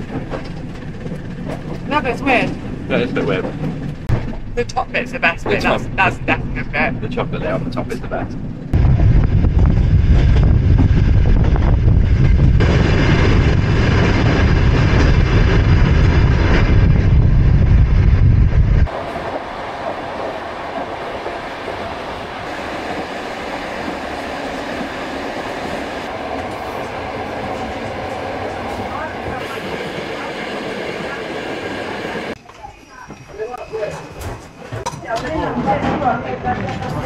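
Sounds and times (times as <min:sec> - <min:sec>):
passenger train rumble: 0:00.0 - 0:34.6.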